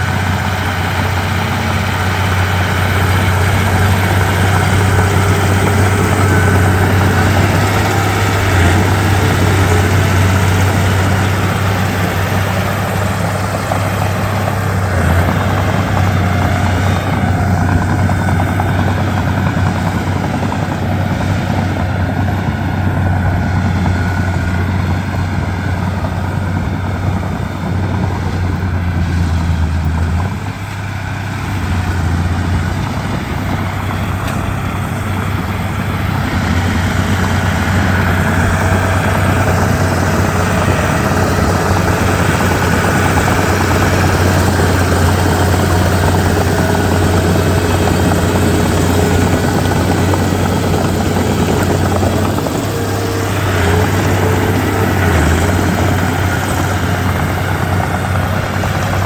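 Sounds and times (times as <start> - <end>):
bulldozer diesel engine throbbing: 0.0 - 59.0.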